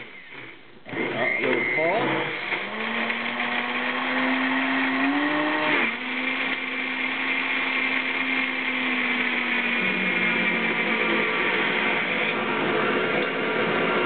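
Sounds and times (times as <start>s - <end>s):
blender motor humming: 0.0s - 14.0s.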